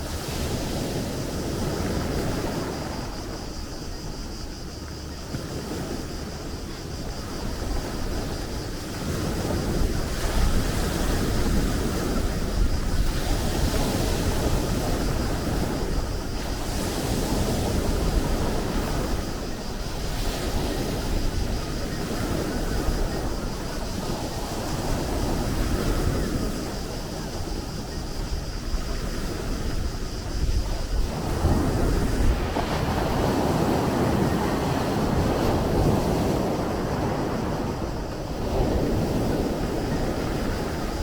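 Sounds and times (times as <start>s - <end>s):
waves breaking: 0.0s - 41.0s
wind rumble on microphone: 0.0s - 41.0s.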